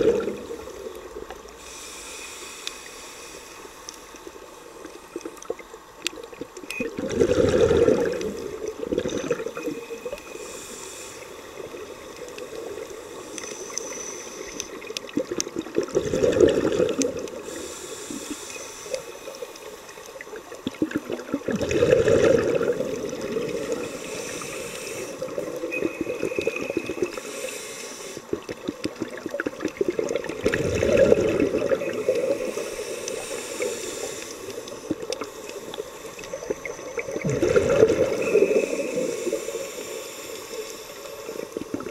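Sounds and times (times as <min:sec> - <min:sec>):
regulator bubbles gurgling: 0:00.0 - 0:01.6, 0:04.2 - 0:41.9
steady hiss: 0:00.0 - 0:06.8, 0:07.9 - 0:15.9, 0:16.9 - 0:21.4, 0:22.4 - 0:30.4, 0:31.2 - 0:41.9.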